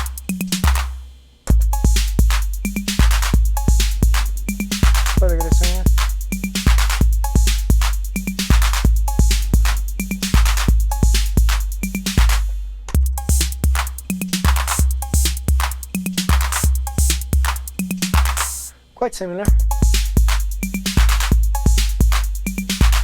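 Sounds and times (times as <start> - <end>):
drum machine pattern: 0.0 - 18.8, 19.5 - 23.0.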